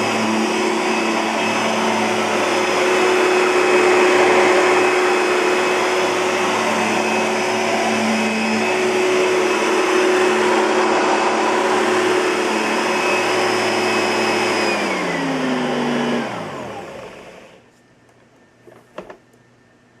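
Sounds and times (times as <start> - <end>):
vacuum cleaner motor whining: 0.0 - 17.7.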